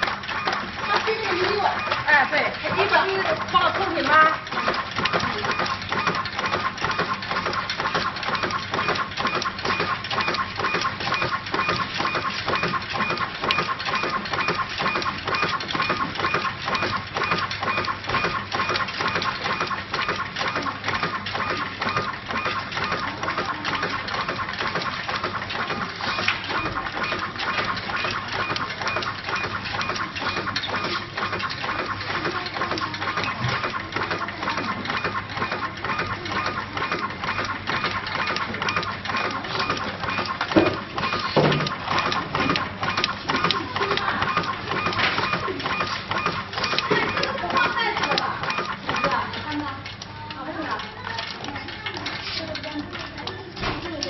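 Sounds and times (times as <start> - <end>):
machine rapid clicking and clatter: 0.0 - 54.0
steady machine hum: 0.0 - 54.0.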